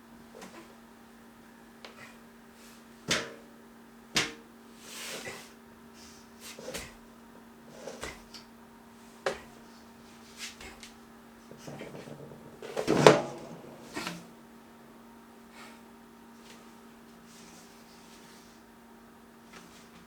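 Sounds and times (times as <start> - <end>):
steady low hum: 0.0 - 19.4.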